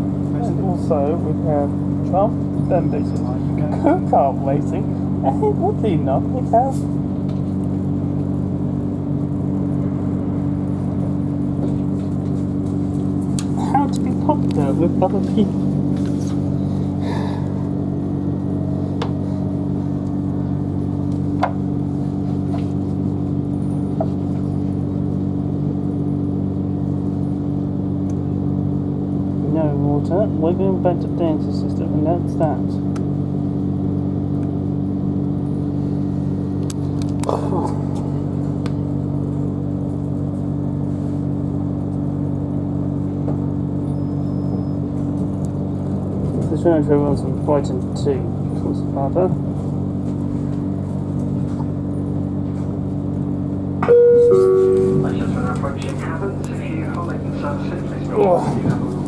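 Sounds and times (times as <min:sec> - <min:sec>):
train interior hum: 0:00.0 - 0:29.4, 0:35.4 - 0:59.0
wheels rumbling on rail: 0:00.0 - 0:29.4, 0:33.0 - 0:59.0.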